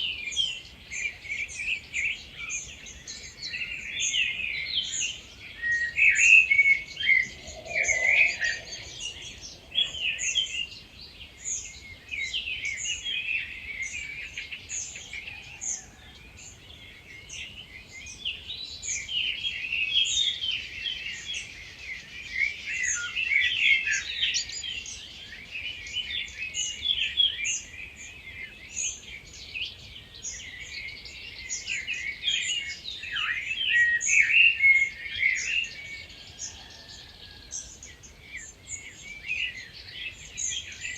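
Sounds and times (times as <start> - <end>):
birds singing in chorus: 0.0 - 40.9.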